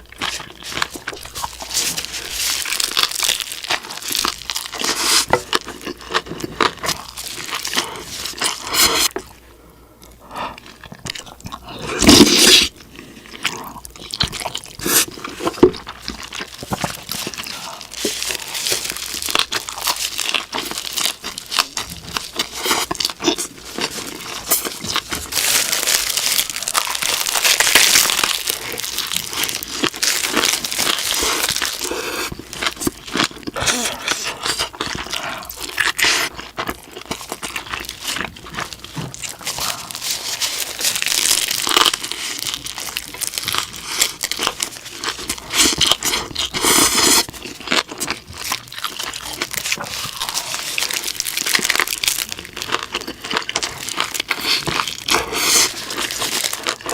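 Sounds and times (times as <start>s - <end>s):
crinkling and tearing: 0.0s - 9.3s, 10.8s - 56.9s
crunchy chewing: 0.0s - 9.4s, 10.0s - 56.9s.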